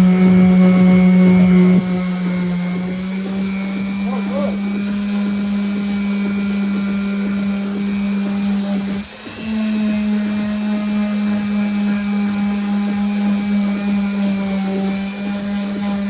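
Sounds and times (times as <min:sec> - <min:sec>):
electric sander running: 0:00.0 - 0:16.0.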